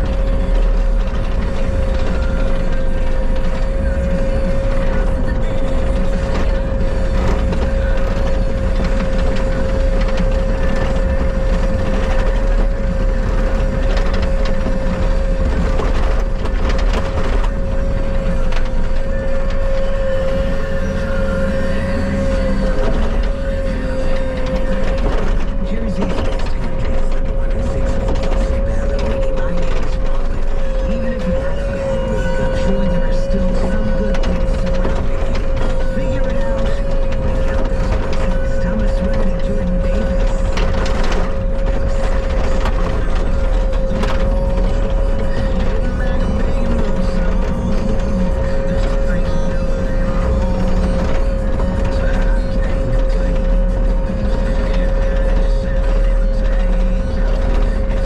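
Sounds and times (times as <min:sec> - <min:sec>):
cracks and knocks: 0:00.0 - 0:58.0
high whine: 0:00.0 - 0:58.0
metal rattles and clanks: 0:00.0 - 0:58.0
skid steer engine rumble: 0:00.0 - 0:58.0.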